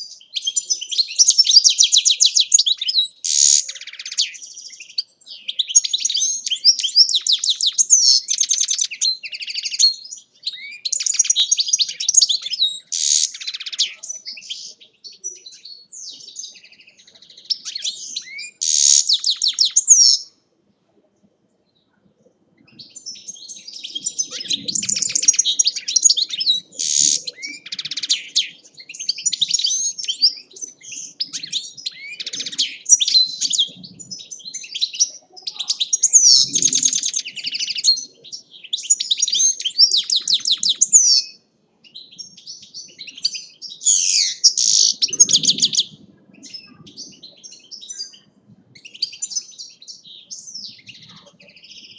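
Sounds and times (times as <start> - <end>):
goldfinch twittering song: 0.0 - 20.3, 22.6 - 51.9.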